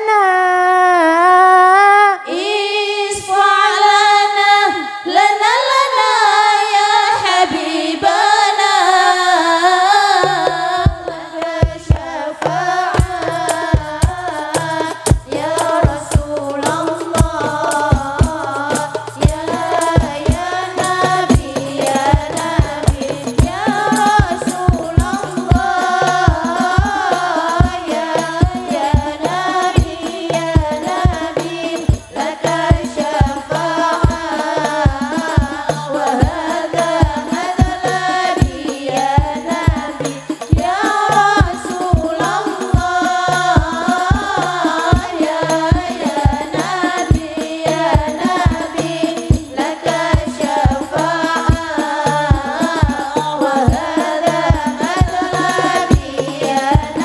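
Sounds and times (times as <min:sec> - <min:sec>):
women singing into microphones: 0:00.0 - 0:57.0
frame drums beating: 0:10.1 - 0:57.0.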